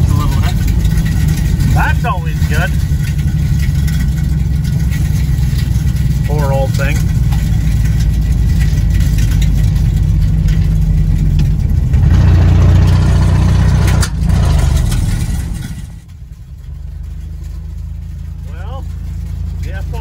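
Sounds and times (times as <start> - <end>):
pickup engine and road noise: 0.0 - 20.0.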